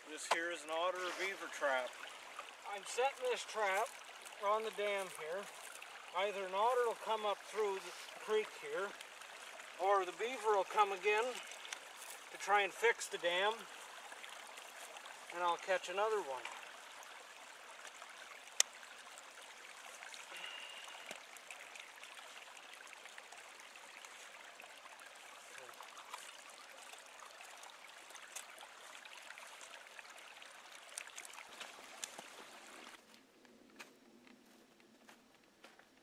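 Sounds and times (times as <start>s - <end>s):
creek water trickling: 0.0s - 36.0s.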